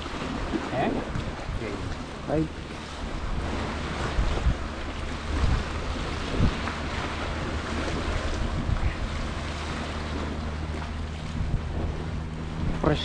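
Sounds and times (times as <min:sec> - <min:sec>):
low steady hum: 0:00.0 - 0:13.0
sea waves: 0:00.0 - 0:13.0
wind buffeting microphone: 0:00.0 - 0:13.0.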